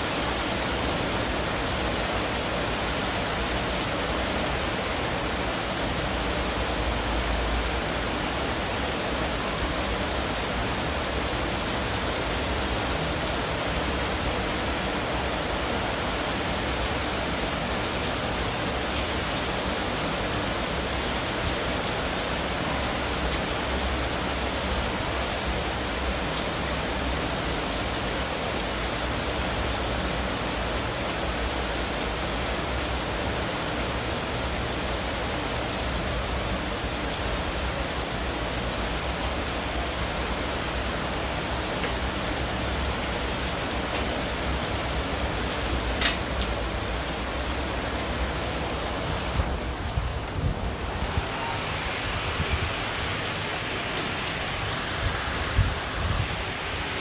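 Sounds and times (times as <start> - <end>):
heavy rain on window glass: 0.0 - 57.0.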